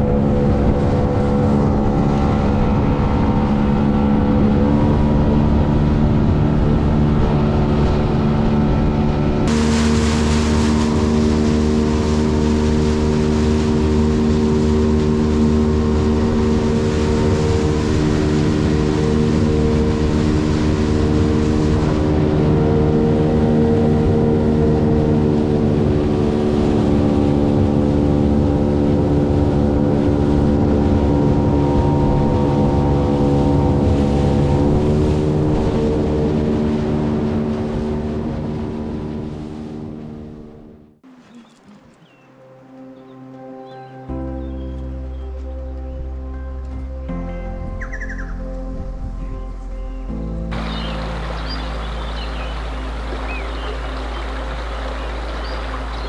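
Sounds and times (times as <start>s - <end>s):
rushing water: 0.0s - 46.6s, 50.4s - 56.0s
boat engine drone: 0.0s - 56.0s.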